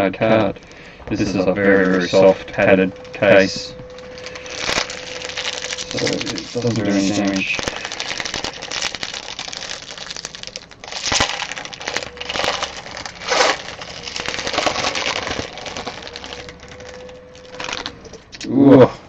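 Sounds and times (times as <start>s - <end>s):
plastic wrappers crinkling: 0.2s - 18.4s.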